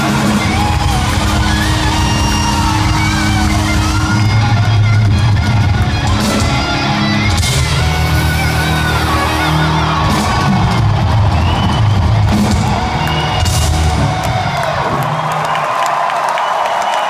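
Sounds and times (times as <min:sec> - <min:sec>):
heavy metal band playing live: 0:00.0 - 0:15.3
crowd whooping and yelling: 0:00.0 - 0:17.0.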